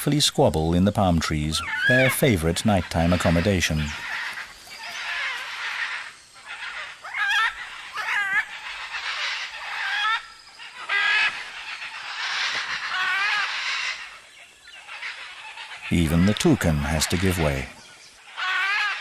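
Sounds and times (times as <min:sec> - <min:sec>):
macaws squawking: 0:01.2 - 0:19.0.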